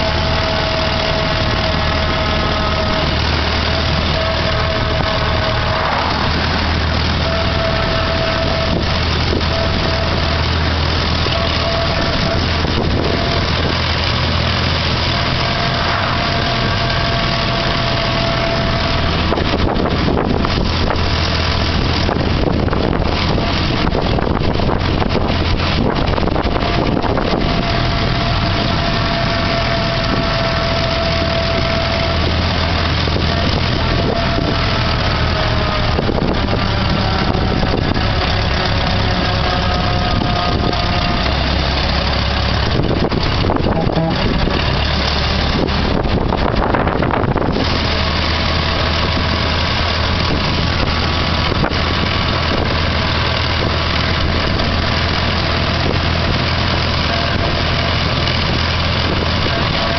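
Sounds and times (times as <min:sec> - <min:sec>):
car engine running: 0:00.0 - 0:59.9
road and wind noise: 0:00.0 - 0:59.9
thin whine: 0:00.0 - 0:59.9.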